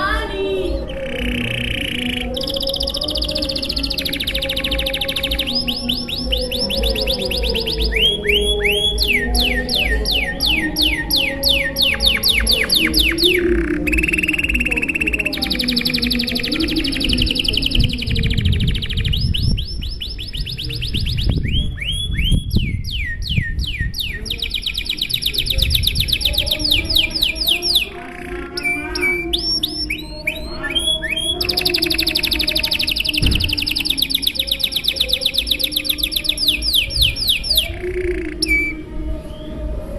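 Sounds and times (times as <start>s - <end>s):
canary singing fast trills: 0.0s - 39.6s.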